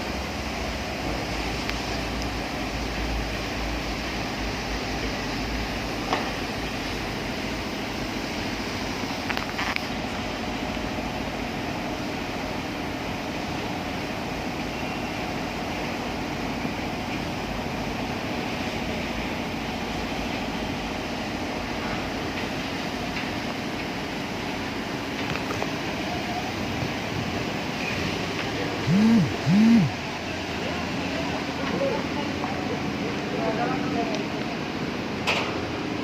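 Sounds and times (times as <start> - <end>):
construction machinery drone: 0.0 - 36.0.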